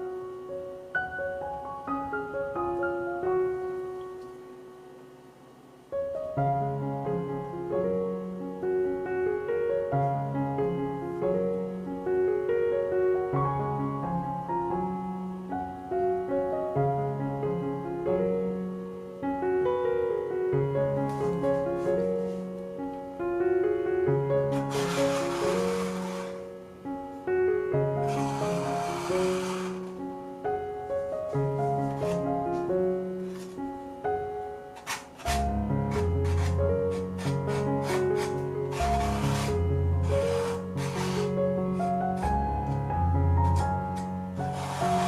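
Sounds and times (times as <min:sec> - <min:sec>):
gentle piano music: 0:00.0 - 0:45.0.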